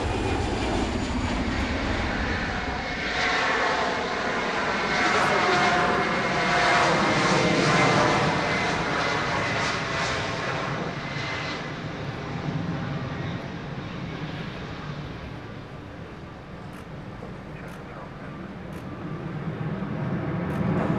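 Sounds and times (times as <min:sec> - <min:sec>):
jet engines at takeoff power: 0:00.0 - 0:20.9.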